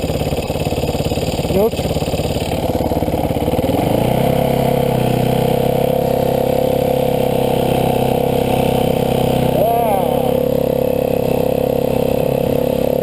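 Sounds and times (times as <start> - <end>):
dirtbike engine running: 0.0 - 13.0.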